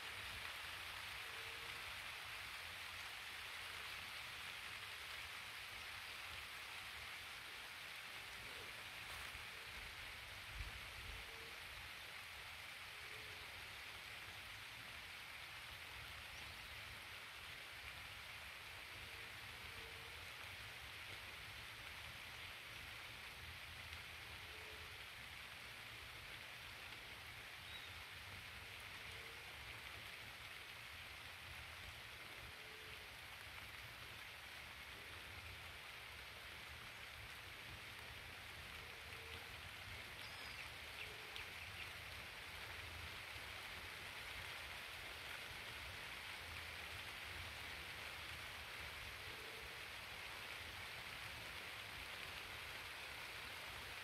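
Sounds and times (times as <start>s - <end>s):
light rain hissing: 0.0s - 54.0s
water rushing over spillway: 0.0s - 54.0s.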